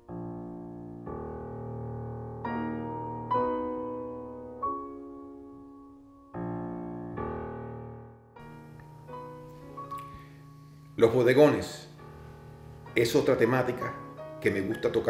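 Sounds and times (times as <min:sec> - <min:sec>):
slow solo piano: 0:00.0 - 0:11.0, 0:11.8 - 0:15.0.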